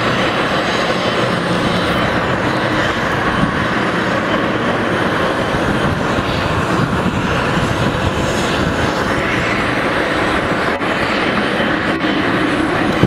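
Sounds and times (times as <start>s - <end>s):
jet aircraft rumble: 0.0s - 13.0s.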